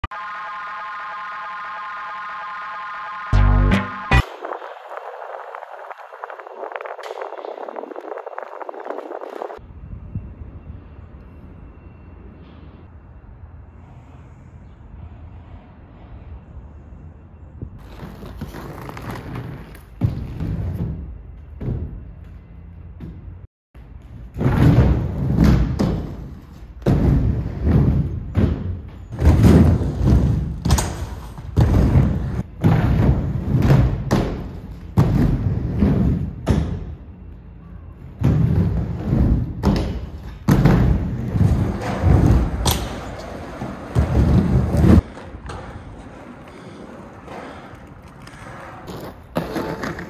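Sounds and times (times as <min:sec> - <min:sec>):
skate wheels rolling on ramp: 0:00.2 - 0:09.6, 0:17.8 - 0:22.4, 0:23.0 - 0:37.1, 0:38.0 - 0:50.0.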